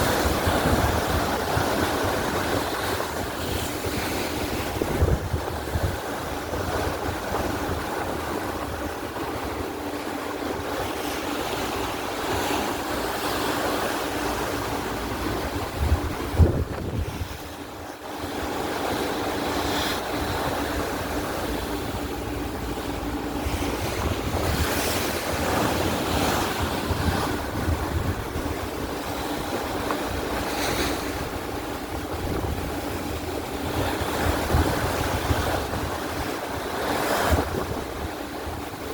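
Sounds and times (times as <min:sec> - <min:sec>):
sea waves splashing around boat: 0:00.0 - 0:38.9
wind buffeting microphone: 0:00.0 - 0:38.9.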